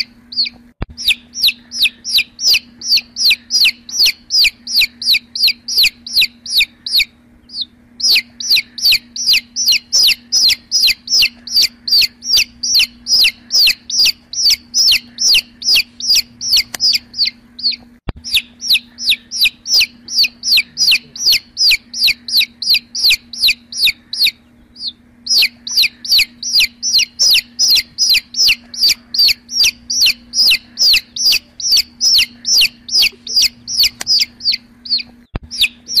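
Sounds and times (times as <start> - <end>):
baby chick peeping: 0.0 - 36.0
faint steady hum: 0.0 - 36.0.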